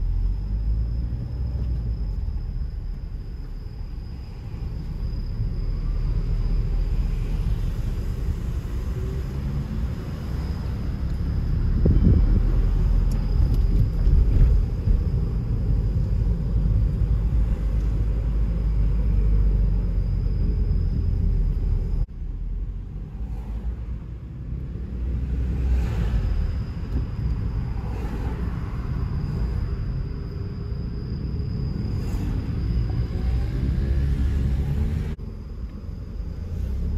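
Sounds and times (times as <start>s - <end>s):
car road and engine rumble: 0.0s - 36.9s.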